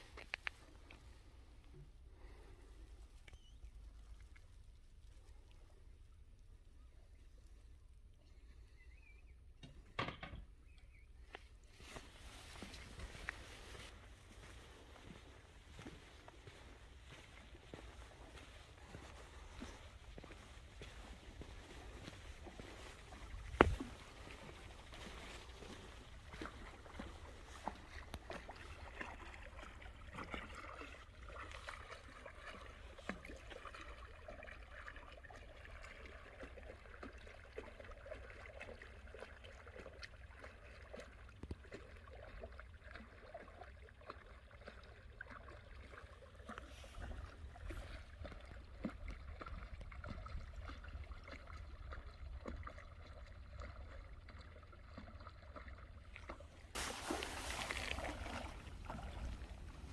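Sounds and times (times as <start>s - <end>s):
water lapping against breakwater: 11.2s - 59.9s.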